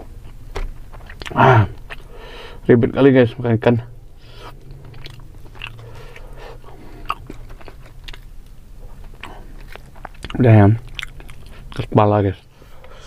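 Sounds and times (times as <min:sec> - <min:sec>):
person chewing food: 0:00.0 - 0:02.6, 0:04.0 - 0:12.0.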